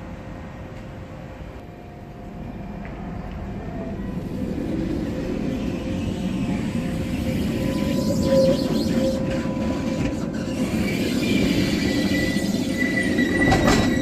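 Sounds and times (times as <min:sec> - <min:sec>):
tram pulling away: 0:00.0 - 0:14.0.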